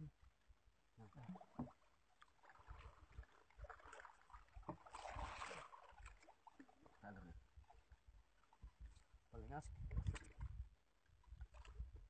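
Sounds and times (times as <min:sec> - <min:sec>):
water sloshing against wooden boat: 0:00.0 - 0:12.0
rush of water: 0:01.0 - 0:12.0.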